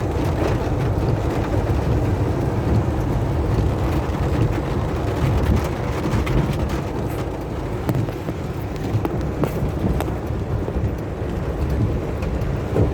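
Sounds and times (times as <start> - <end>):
car road rumble: 0.0 - 12.9
raindrops ticking: 0.0 - 12.9.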